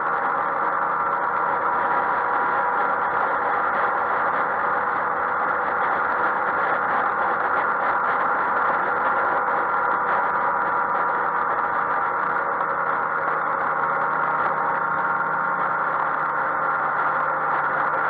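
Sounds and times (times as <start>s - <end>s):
road noise: 0.0s - 18.0s
scooter engine cruising: 0.0s - 18.0s.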